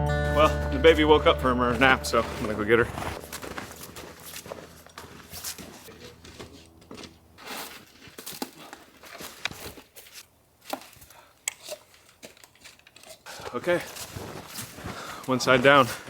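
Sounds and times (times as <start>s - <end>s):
crunching in packed snow: 0.4s - 16.0s.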